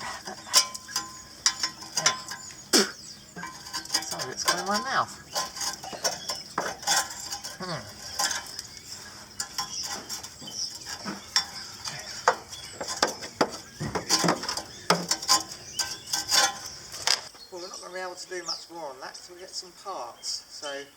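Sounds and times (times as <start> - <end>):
metal tools clinking and scraping: 0.0 - 17.3.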